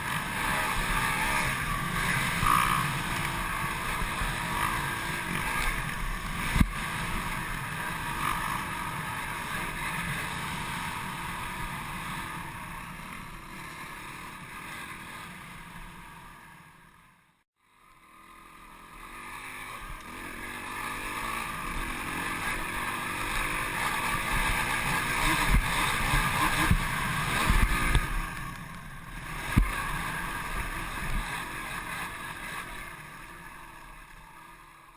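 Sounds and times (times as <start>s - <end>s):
dirt bike engine running: 0.0s - 34.9s.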